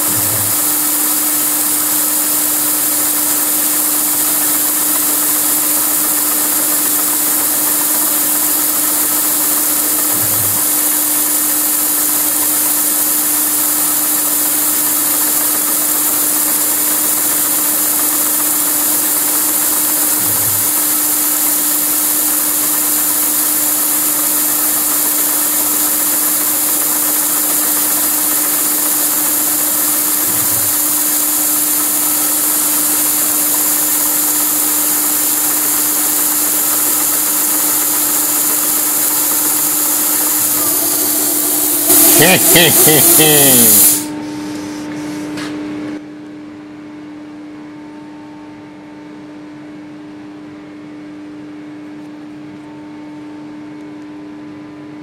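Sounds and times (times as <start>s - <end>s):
milling machine humming: 0.0s - 44.6s.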